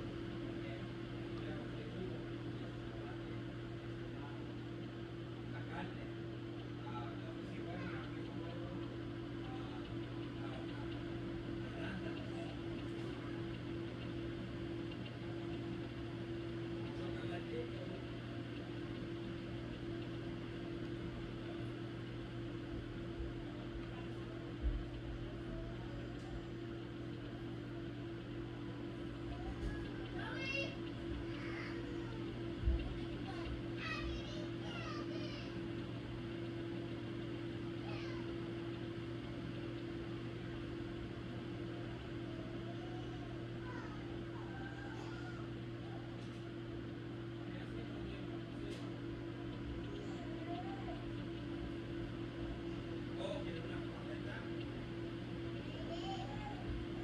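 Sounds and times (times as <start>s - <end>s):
steady machine hum: 0.0s - 57.0s.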